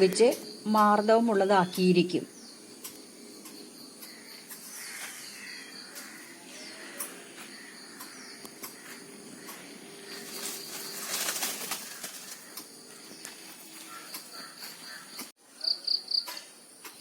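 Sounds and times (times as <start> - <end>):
faint bird calls: 2.8 - 16.5.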